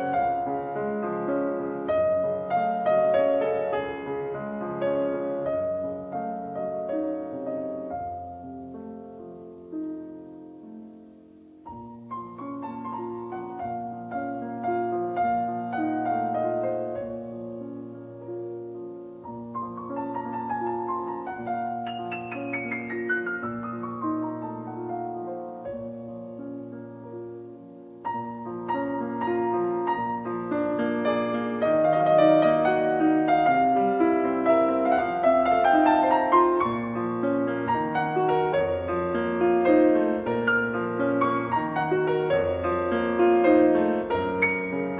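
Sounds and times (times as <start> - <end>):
solo piano music: 0.0 - 44.9.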